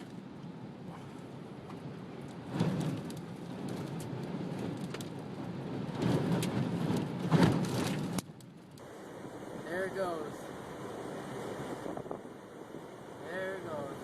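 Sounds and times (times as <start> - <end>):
gusty storm wind: 0.0 - 14.0
rain: 0.0 - 14.0.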